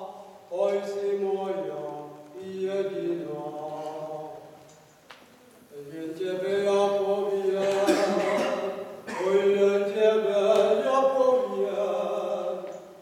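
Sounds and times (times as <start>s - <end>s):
man singing unaccompanied: 0.0s - 4.7s, 5.7s - 13.0s.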